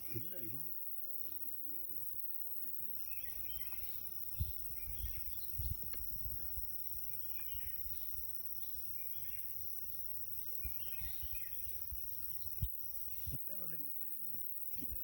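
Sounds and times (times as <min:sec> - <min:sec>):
insect chirping calls: 0:00.0 - 0:15.0.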